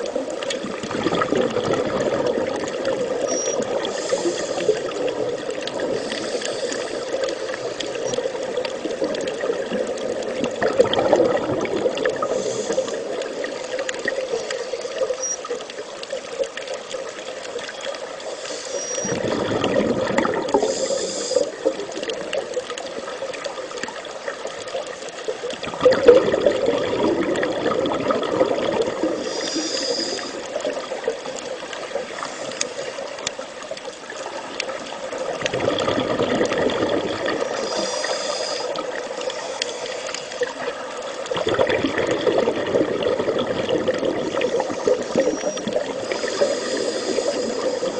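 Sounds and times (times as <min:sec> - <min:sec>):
water trickling: 0:00.0 - 0:47.9.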